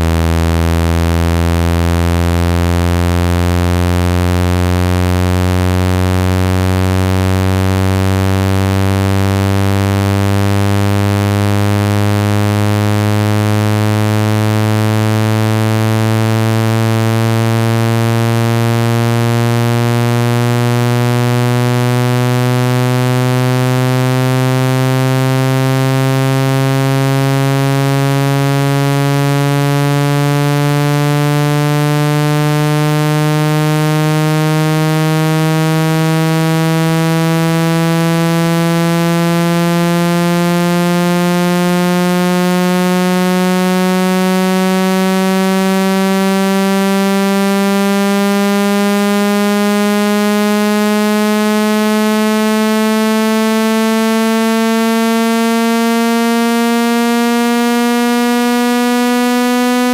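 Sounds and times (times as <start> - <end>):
synthesized buzzing tone rising: 0.0 - 59.9.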